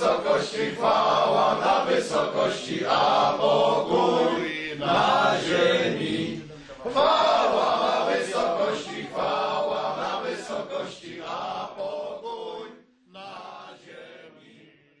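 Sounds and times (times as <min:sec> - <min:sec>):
men singing a carol together: 0:00.0 - 0:15.0.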